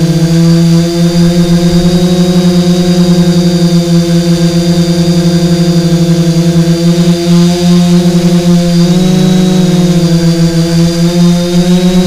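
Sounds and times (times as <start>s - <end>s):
quadcopter motors humming: 0.0s - 12.0s.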